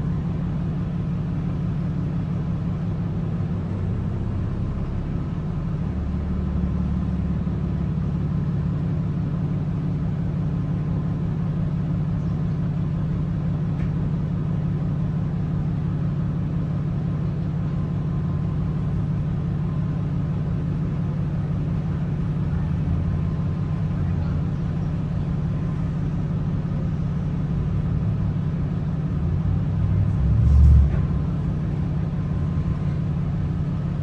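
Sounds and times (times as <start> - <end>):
bus engine humming: 0.0 - 34.0.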